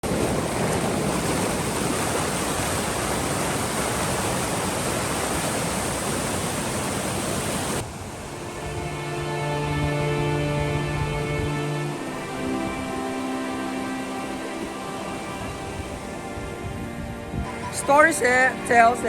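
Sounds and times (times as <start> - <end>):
rushing river water: 0.0 - 19.0.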